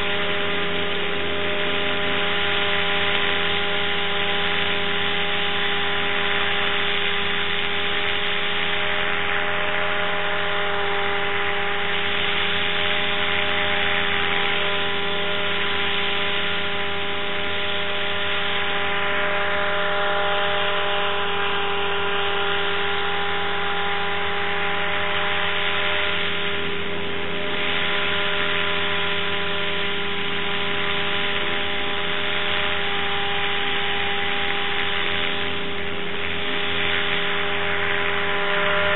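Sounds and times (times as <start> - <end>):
motor drone with hiss: 0.0 - 38.9.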